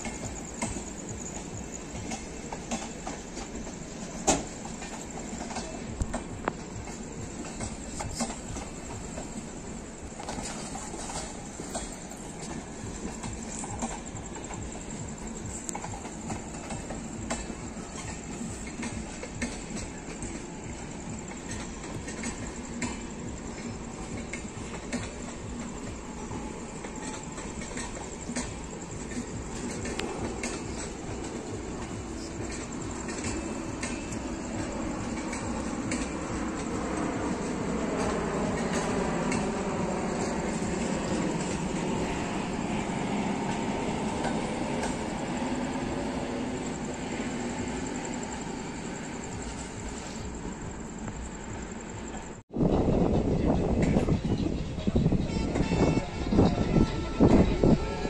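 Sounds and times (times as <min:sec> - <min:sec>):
train rumbling: 0:00.0 - 0:58.0
wheels clicking on rails: 0:00.0 - 0:58.0.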